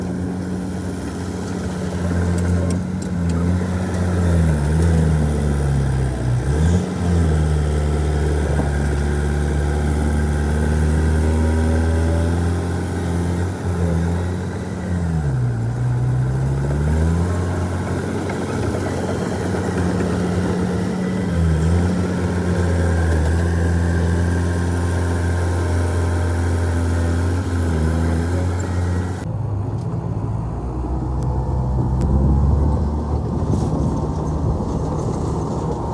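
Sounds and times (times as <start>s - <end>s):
diesel machinery engine running: 0.0s - 35.9s.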